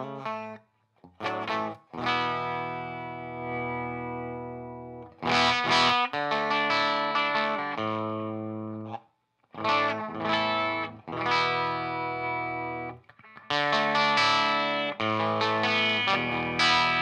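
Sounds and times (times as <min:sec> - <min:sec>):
electric guitar chords lightly distorted: 0:00.0 - 0:17.0.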